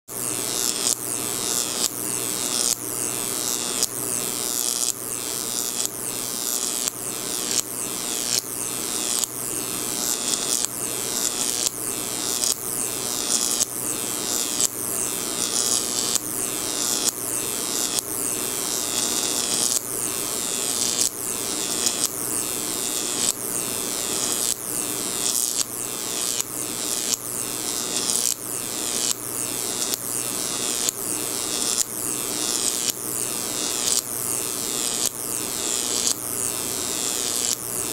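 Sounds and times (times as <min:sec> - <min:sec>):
electric arc hissing: 0:00.2 - 0:37.9.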